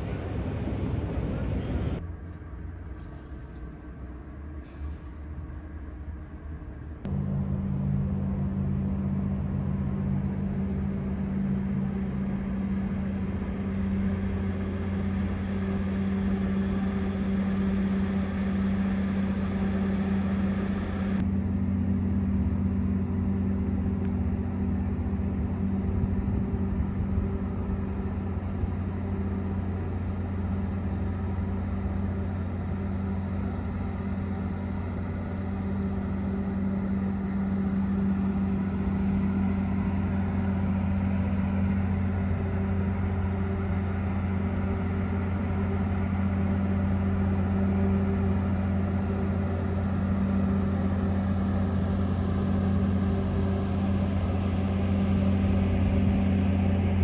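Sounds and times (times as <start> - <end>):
low machinery hum: 0.0 - 57.0.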